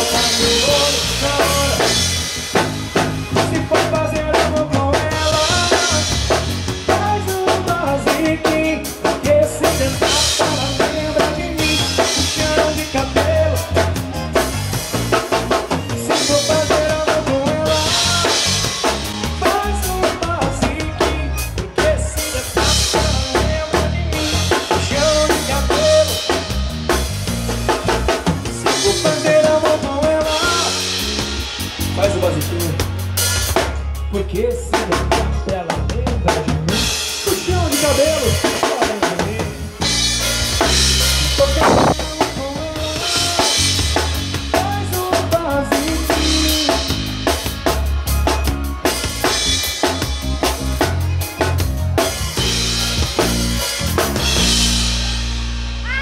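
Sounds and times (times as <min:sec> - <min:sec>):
drum kit beat: 0:00.0 - 0:56.0
live band playing instrumental: 0:00.0 - 0:56.0.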